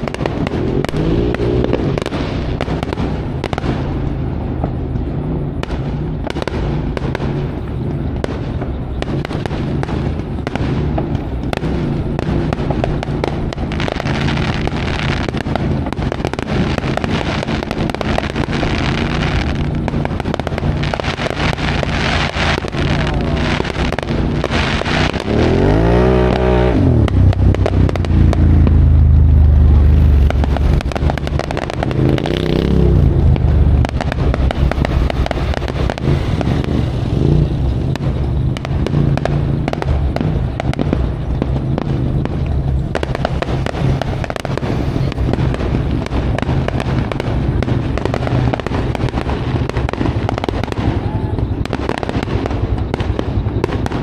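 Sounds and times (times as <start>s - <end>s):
crackling clatter: 0.0s - 54.0s
off-road vehicle engine revving: 0.1s - 3.9s, 9.0s - 49.0s.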